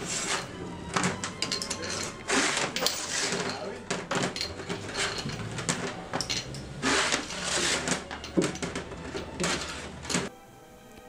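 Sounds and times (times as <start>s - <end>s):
metal rings clinking and clattering: 0.0s - 10.3s.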